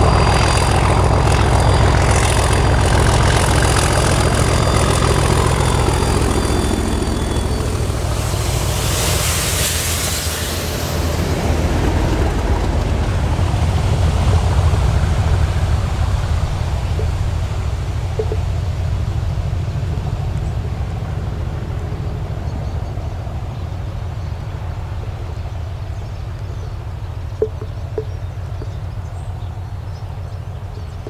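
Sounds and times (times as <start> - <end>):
diesel locomotive engine growl: 0.0 - 31.0
train passing: 0.0 - 31.0.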